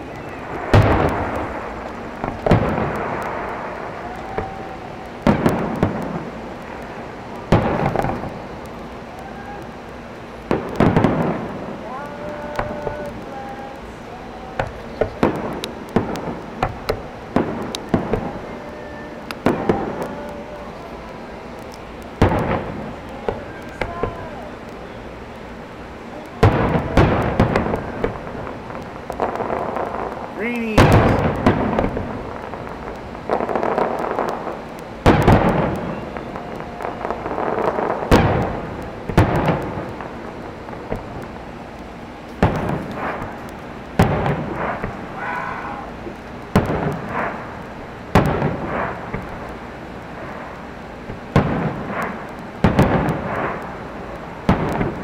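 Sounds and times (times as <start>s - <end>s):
fireworks bangs and pops: 0.0s - 55.0s
fireworks crackle: 0.0s - 55.0s.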